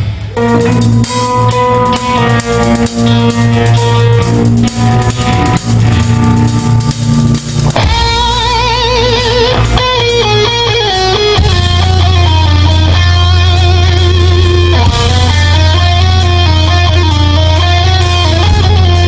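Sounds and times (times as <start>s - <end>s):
lead guitar with vibrato: 0.0s - 19.0s
rock band playing: 0.0s - 19.0s.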